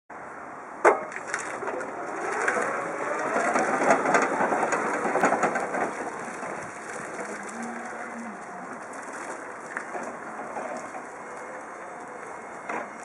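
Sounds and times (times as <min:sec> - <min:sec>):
tyres crunching on grit: 0:01.2 - 0:13.0.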